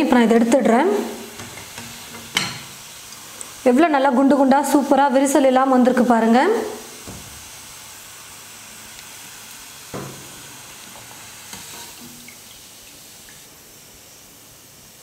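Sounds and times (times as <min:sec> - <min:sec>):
oil sizzling: 0:00.0 - 0:15.0.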